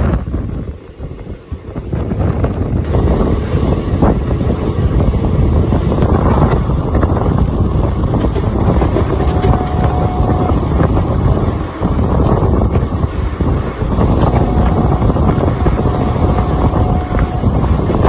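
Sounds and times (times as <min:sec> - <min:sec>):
train wheels rumbling: 0:00.0 - 0:18.0
wind buffeting microphone: 0:00.0 - 0:18.0.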